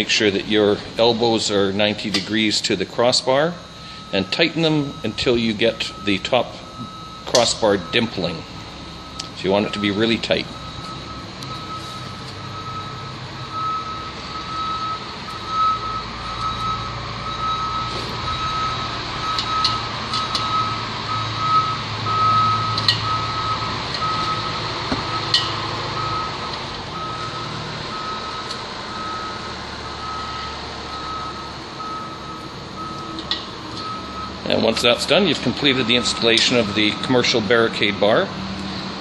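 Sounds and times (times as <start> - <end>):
reversing alarm beeping: 0.0 - 38.4
low engine rumble: 0.0 - 39.0.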